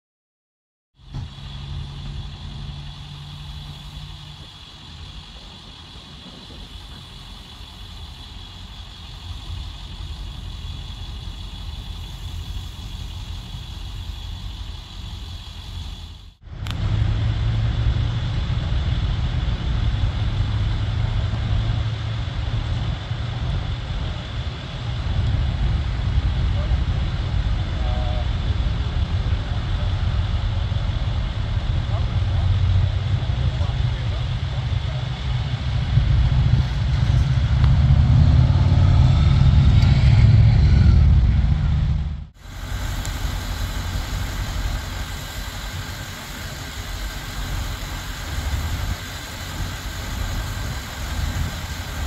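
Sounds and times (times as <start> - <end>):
high-pitched whine: 1.0 - 52.0
vehicle engines idling: 1.0 - 52.0.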